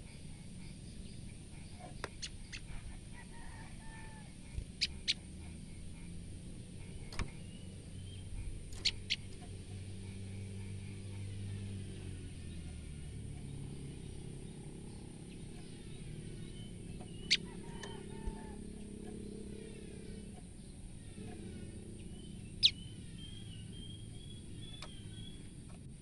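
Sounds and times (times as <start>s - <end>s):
bird alarm notes: 0.0s - 11.4s, 13.6s - 25.7s
steady low rumble: 0.0s - 26.0s.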